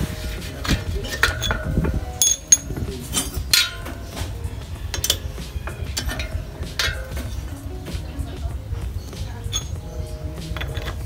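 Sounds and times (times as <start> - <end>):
metal axle clinking and scraping: 0.0 - 11.0.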